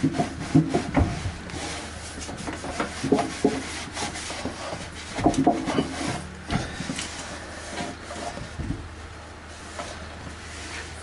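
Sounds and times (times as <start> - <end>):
cloth scrubbing inside microwave: 0.0 - 11.0.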